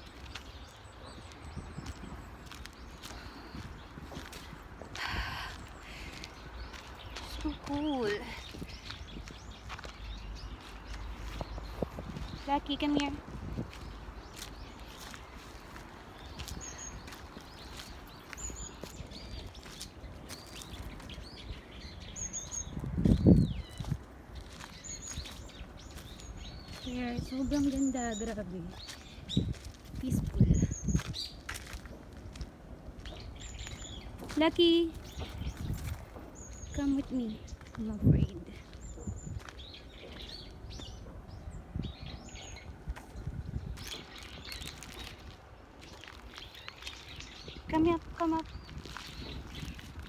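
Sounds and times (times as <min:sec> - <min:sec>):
songbirds chirping: 0:00.0 - 0:50.0
wild birds singing: 0:00.0 - 0:50.0.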